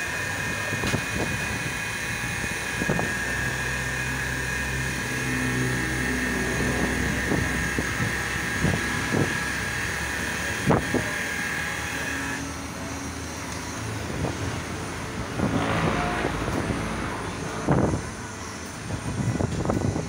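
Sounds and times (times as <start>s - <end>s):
car polisher motor whining: 0.0s - 20.0s.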